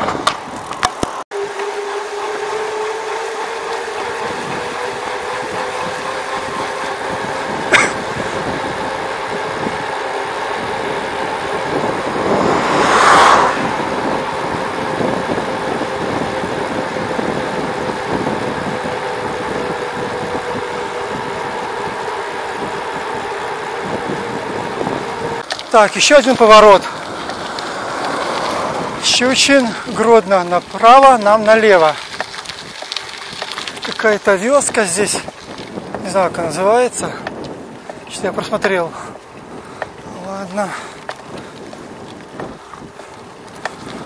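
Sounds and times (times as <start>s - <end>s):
bicycle rolling on road: 0.0s - 44.0s
passing vehicle: 0.0s - 44.0s
wind noise: 3.9s - 44.0s.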